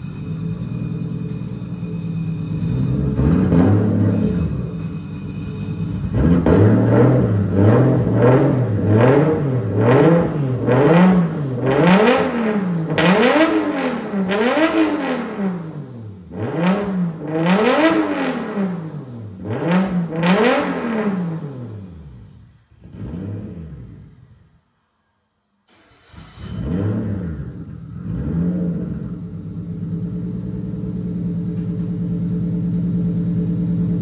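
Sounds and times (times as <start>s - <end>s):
car engine revving: 0.0s - 24.5s, 26.4s - 34.0s.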